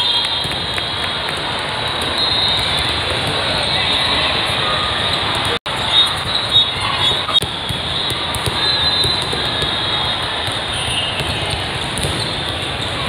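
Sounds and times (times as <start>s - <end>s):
crowd chatter: 0.0s - 13.0s
volleyball play: 0.0s - 13.0s.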